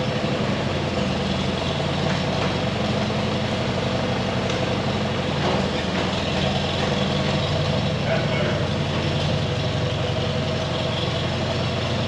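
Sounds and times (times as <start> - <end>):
farm machine engine idling: 0.0 - 12.0.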